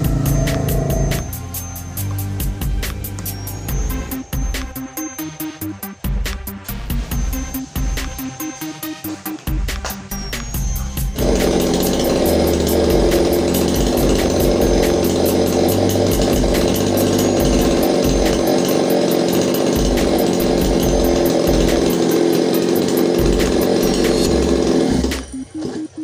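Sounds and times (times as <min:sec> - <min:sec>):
chainsaw engine running: 0:00.0 - 0:25.9.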